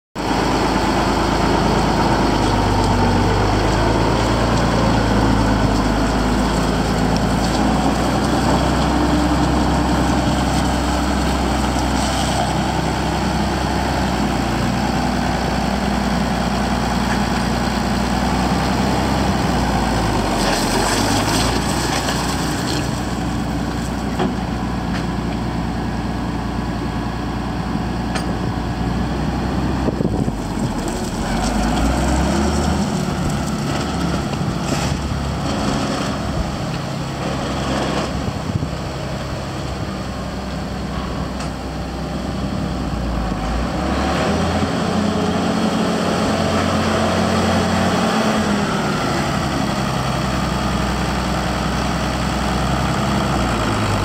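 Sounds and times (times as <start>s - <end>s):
tractor diesel engine idling: 0.2s - 43.6s, 45.0s - 54.0s
tractor driving off: 0.2s - 54.0s.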